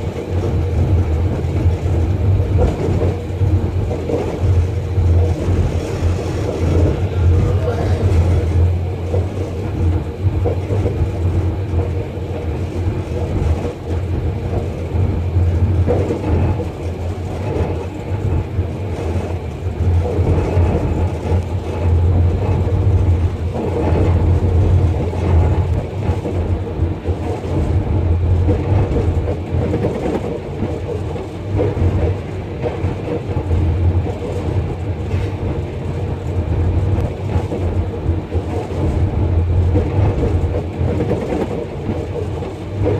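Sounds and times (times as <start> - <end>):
low locomotive engine drone: 0.0 - 42.9
wheels rumbling on track: 0.0 - 42.9.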